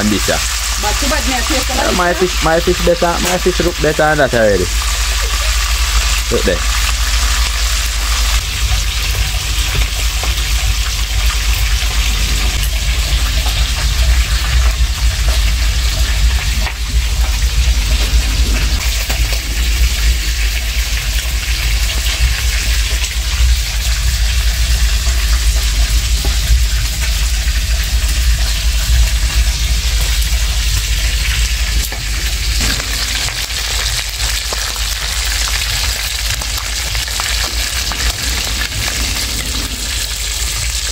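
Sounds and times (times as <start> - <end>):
fish sizzling in hot oil: 0.0 - 40.9
low rumble: 0.0 - 40.9.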